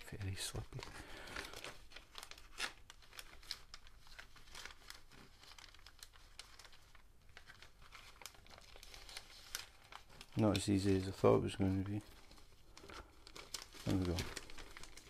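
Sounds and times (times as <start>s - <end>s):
plastic bag crinkling and rustling: 0.0s - 15.0s.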